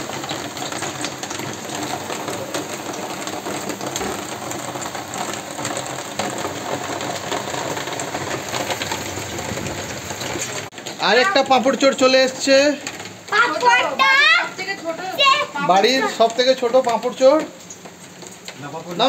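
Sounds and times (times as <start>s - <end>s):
hot oil crackling in a pan: 0.0s - 19.0s.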